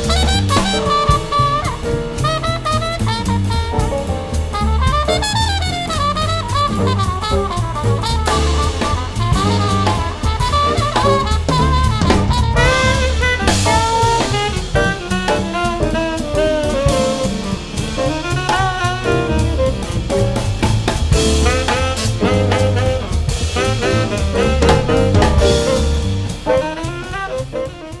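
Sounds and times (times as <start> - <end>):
jazz music: 0.0 - 28.0.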